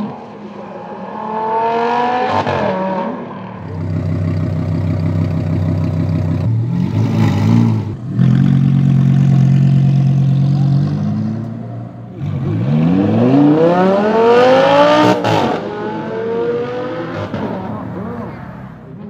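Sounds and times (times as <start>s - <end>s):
car engine revving and accelerating: 0.0s - 19.0s.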